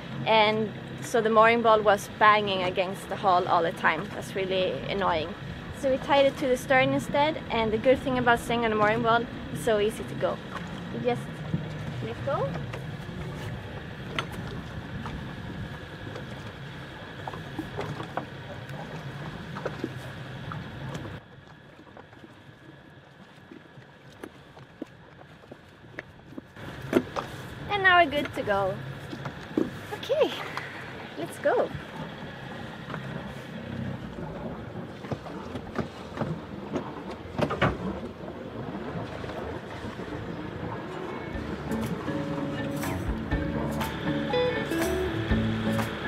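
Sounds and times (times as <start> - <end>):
boat engine idling: 0.0 - 46.0
light wind: 0.0 - 46.0
water noise: 0.0 - 46.0.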